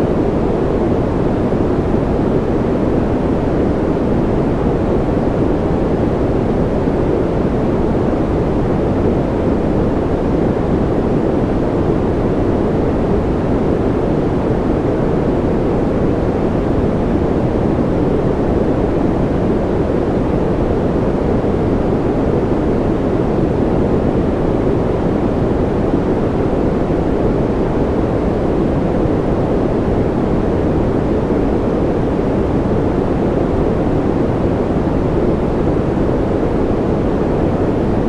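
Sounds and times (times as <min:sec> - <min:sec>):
deep soft white noise: 0:00.0 - 0:38.0.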